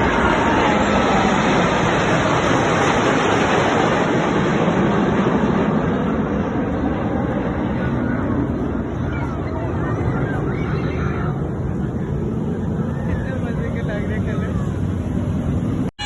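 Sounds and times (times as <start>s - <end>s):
jet aircraft roar: 0.0s - 16.0s.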